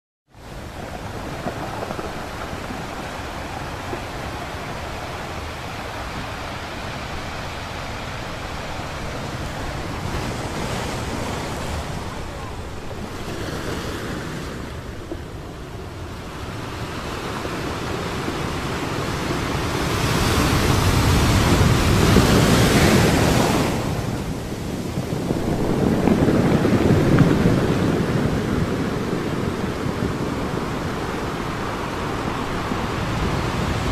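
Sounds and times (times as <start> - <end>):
sea waves rushing: 0.3 - 33.9.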